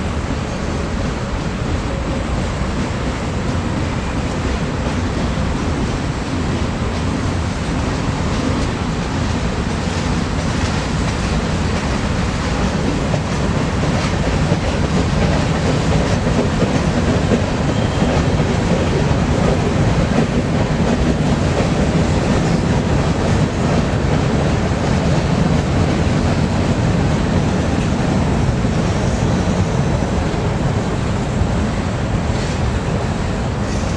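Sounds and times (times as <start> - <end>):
freight train cars rumbling and rattling: 0.0 - 33.9.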